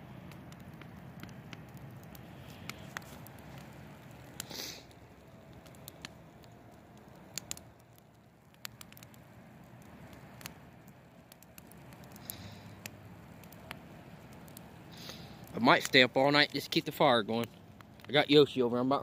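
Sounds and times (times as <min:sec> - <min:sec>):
campfire crackling: 0:00.0 - 0:19.0
sharp fire pops: 0:00.0 - 0:19.0.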